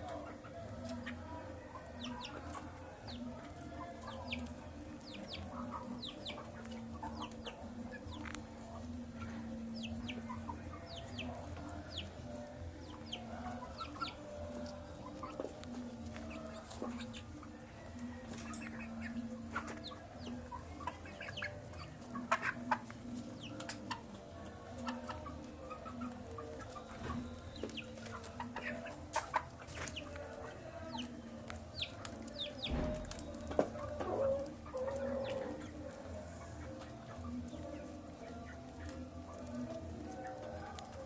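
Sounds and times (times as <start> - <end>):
chickens clucking: 0.0 - 41.0
chicks chirping: 0.0 - 41.0.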